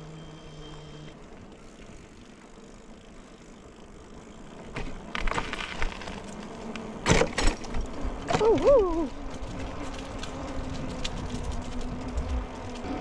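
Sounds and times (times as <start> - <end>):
electric bike rolling: 0.0 - 13.0.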